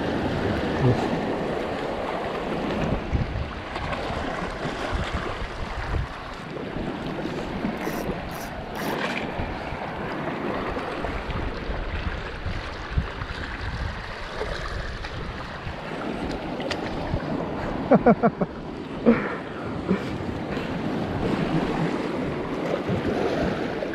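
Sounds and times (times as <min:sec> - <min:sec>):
seawater lapping among rocks: 0:00.0 - 0:23.9
wind rumbling on microphone: 0:00.0 - 0:23.9.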